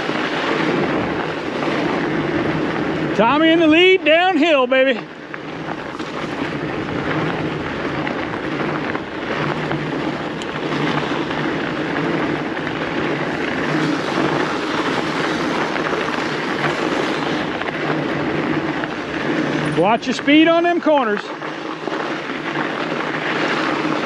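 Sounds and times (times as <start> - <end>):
wind on microphone: 0.0 - 20.9
bike tyres rolling over snow: 0.0 - 24.0.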